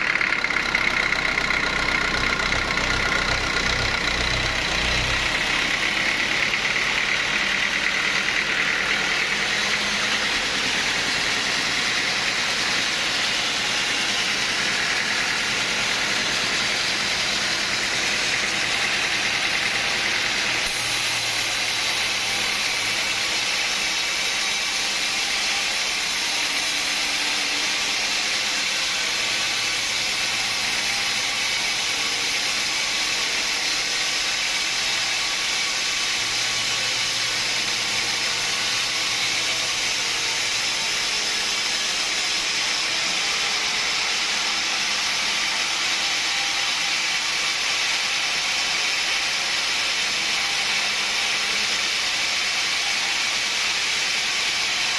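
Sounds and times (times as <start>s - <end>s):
sawmill saw cutting log: 0.0s - 54.9s.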